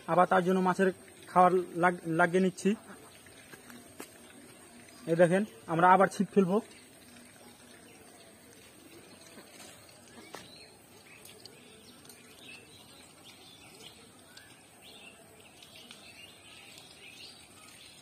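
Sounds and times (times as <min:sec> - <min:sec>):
small birds chirping: 0:02.2 - 0:18.0.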